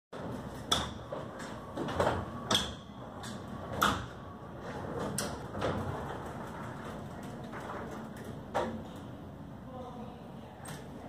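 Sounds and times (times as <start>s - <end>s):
overhead door running noise: 0.2s - 9.6s.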